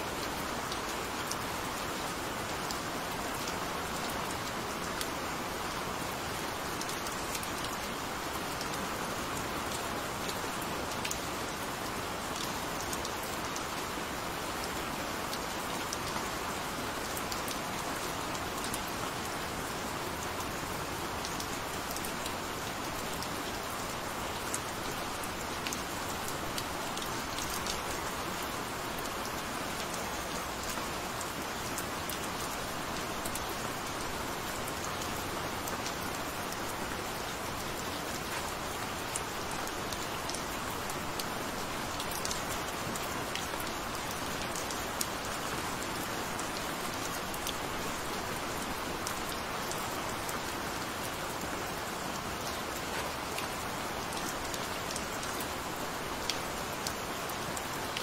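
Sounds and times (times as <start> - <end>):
gentle rain hissing: 0.0 - 58.0.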